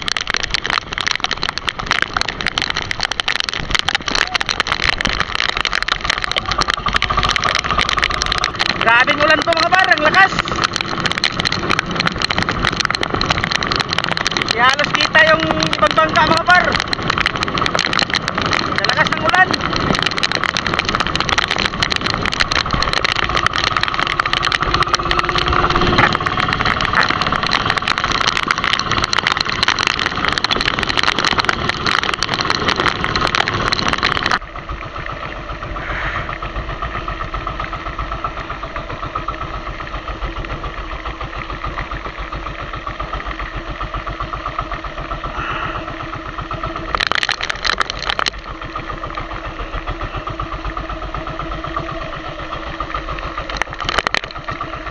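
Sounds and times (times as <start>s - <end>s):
boat engine running: 0.0s - 54.9s
heavy rain pattering: 0.0s - 54.9s.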